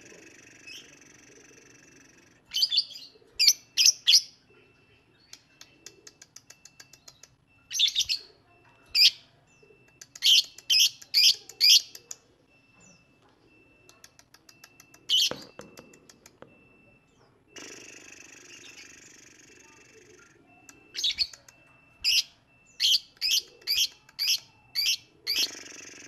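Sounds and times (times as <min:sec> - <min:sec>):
lovebird chirping: 0:00.2 - 0:26.0.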